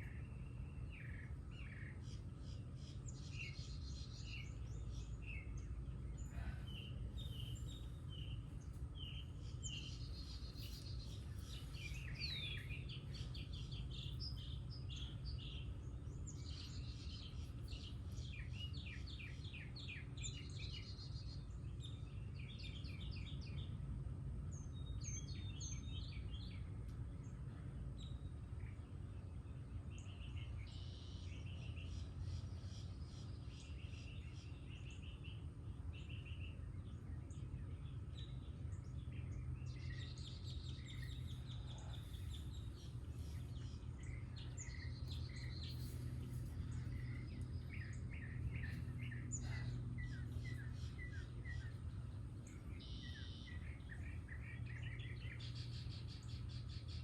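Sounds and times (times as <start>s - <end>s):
songbirds singing and calling: 0.0s - 57.0s.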